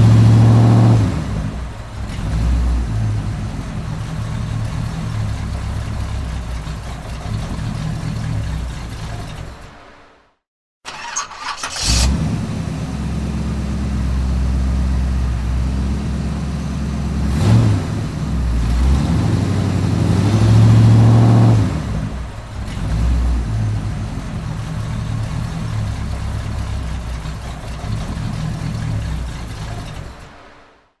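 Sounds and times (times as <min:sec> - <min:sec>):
car engine starting and revving: 0:00.0 - 0:10.3, 0:10.9 - 0:30.8.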